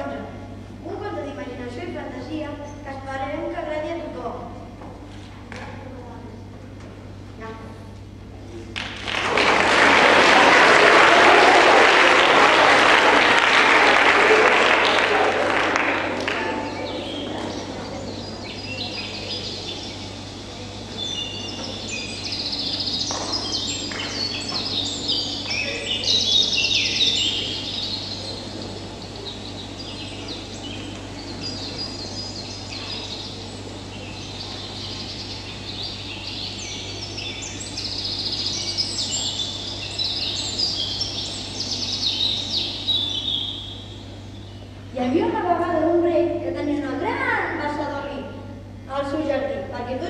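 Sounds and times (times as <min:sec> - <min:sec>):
steady low hum: 0:00.0 - 0:50.0
birdsong chorus: 0:09.4 - 0:50.0.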